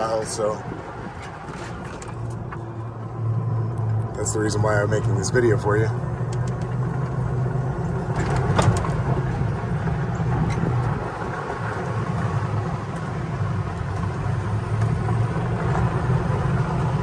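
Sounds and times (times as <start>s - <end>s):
golf cart rumbling on dirt trail: 0.0s - 17.0s.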